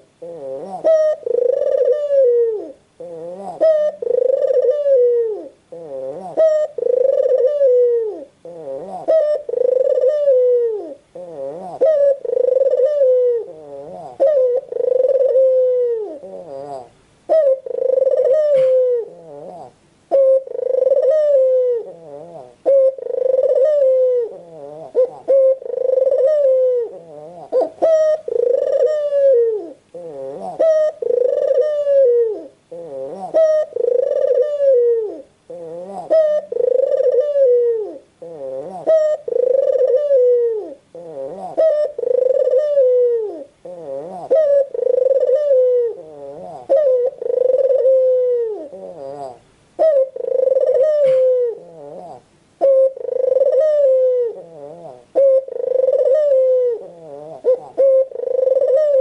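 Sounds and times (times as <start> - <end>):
dove cooing: 0.0 - 59.0.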